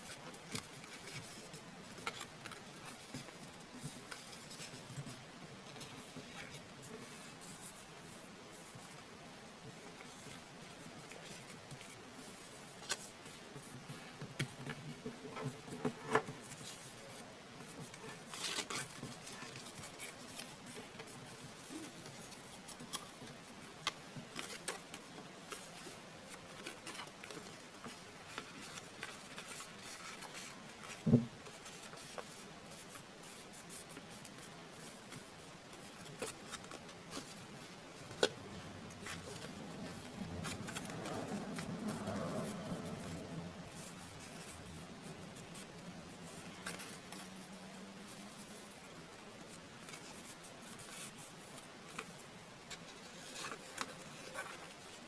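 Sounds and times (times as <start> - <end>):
paper crinkling and tapping: 0.0 - 9.0, 9.6 - 55.0
paper rustling: 0.0 - 55.0.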